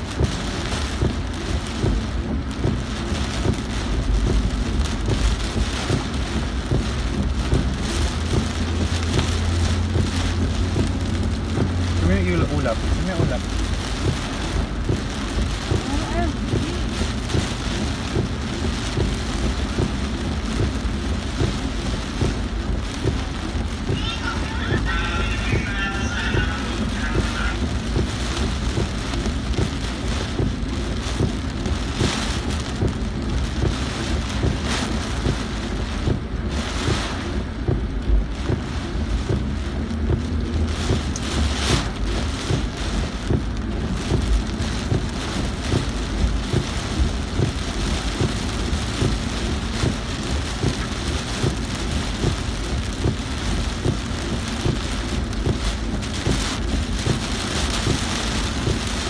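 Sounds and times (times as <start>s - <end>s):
car and tyres rumbling: 0.0s - 59.0s
heavy rain on car roof: 0.0s - 59.0s.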